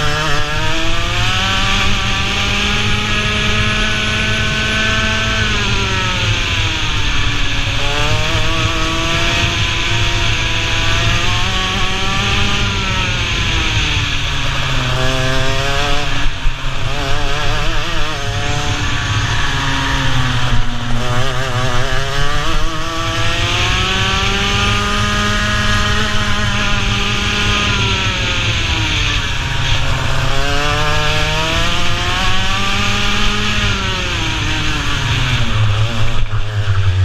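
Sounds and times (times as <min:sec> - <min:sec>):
kart engine at full throttle: 0:00.0 - 0:37.0.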